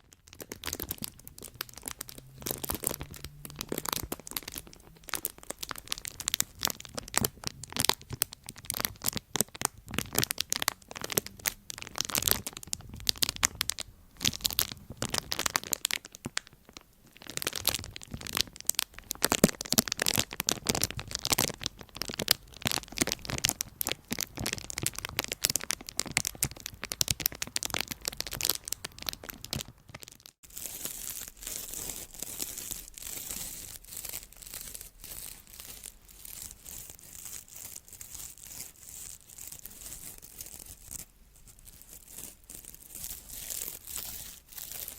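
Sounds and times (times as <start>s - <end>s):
crinkling and crackling: 0.0s - 44.9s.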